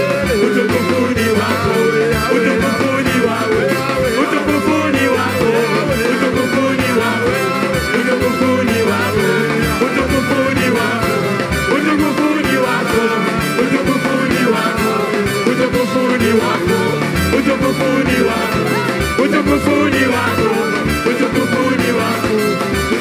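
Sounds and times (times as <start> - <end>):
choir singing gospel: 0.0 - 23.0
instrumental backing with beat: 0.0 - 23.0.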